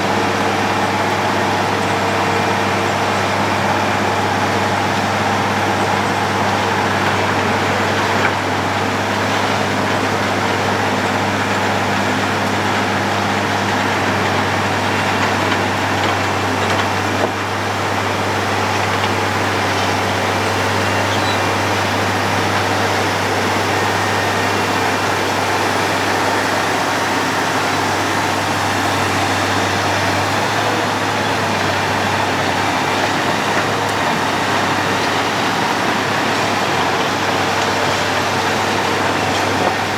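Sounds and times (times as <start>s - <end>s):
road planer diesel drone: 0.0s - 39.9s.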